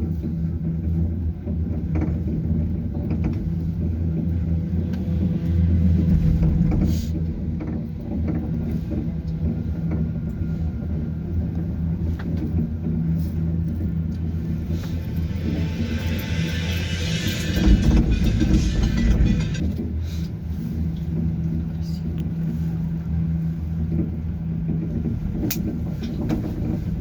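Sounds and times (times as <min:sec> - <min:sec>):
vehicle interior drone: 0:00.0 - 0:27.0.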